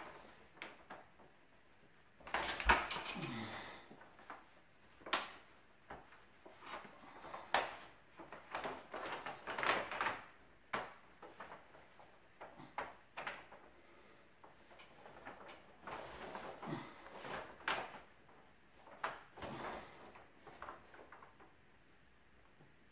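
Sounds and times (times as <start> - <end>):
stiff paper rustling and crackling: 0.0 - 21.8.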